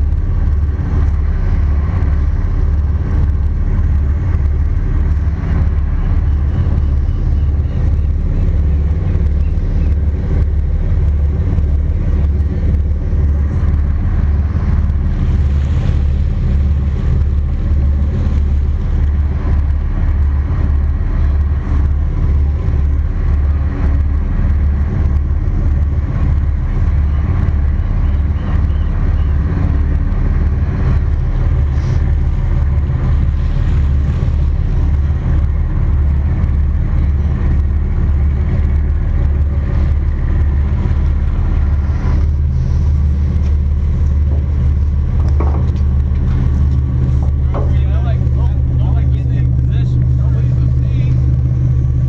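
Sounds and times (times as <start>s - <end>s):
marine diesel engines low throb: 0.0s - 52.0s.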